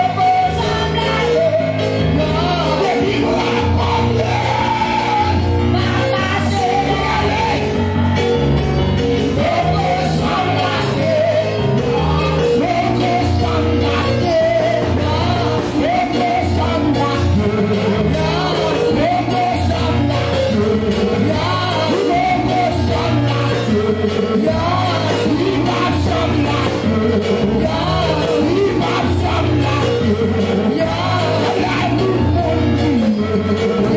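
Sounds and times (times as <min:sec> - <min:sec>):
stepping bass line: 0:00.0 - 0:33.9
voices singing worship music: 0:00.0 - 0:33.9.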